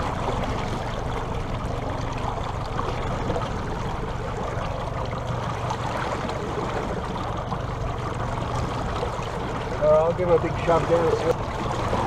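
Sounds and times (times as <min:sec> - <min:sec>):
boat engine humming: 0:00.0 - 0:12.0
water splashing against boat hull: 0:00.0 - 0:12.0.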